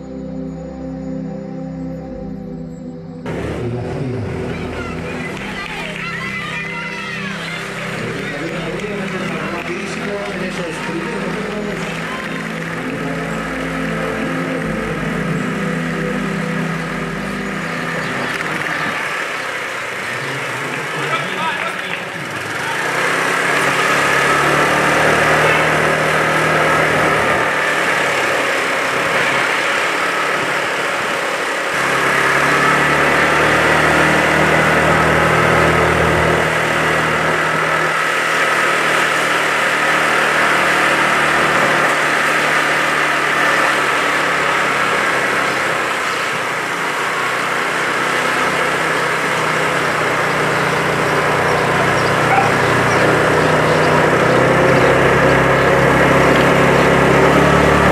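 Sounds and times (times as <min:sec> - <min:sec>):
vehicle engine running at low speed: 0:00.0 - 0:57.9.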